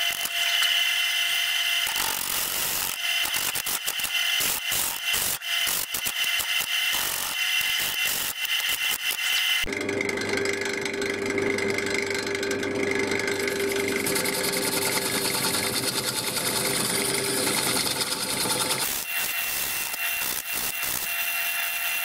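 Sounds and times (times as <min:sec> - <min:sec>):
wood lathe motor hum: 0:00.0 - 0:03.5, 0:05.0 - 0:22.0
tool scraping spinning wood: 0:00.0 - 0:22.0.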